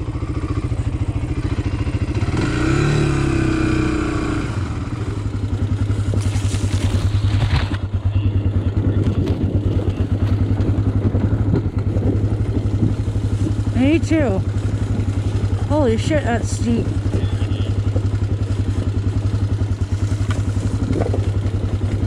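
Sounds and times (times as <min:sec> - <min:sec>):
atv engine idling: 0:00.0 - 0:22.0.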